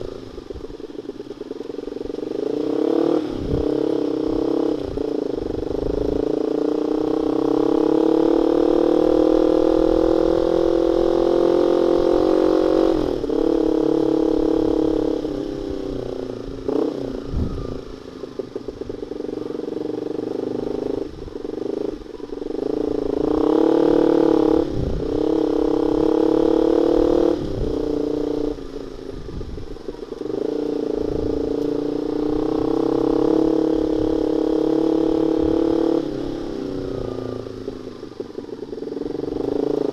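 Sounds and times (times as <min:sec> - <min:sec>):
exhaust crackles: 0:00.0 - 0:39.9
motorcycle engine running: 0:00.0 - 0:39.9.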